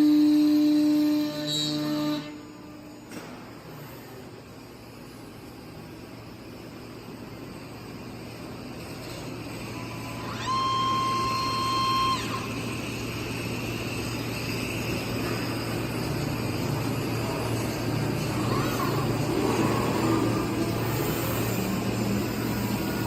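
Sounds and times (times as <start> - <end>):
cnc machine humming and hissing: 0.0 - 23.0
high steady whine: 0.0 - 23.0.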